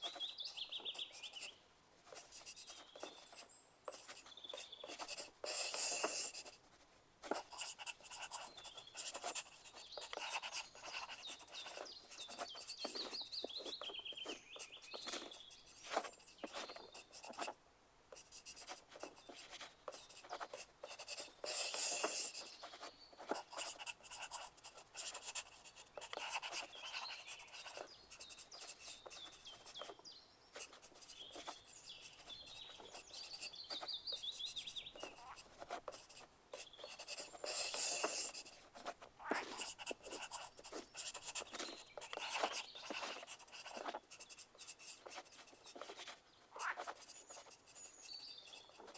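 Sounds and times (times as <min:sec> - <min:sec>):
pencil scratching on paper: 0:00.0 - 0:30.0, 0:30.6 - 0:48.9.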